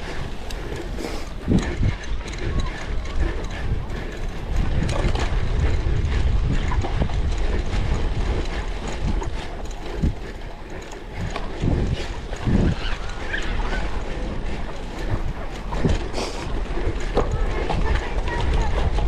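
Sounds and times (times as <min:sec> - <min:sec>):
bike drivetrain rattling: 0:00.0 - 0:19.0
bike hub ratchet ticking: 0:00.1 - 0:18.8.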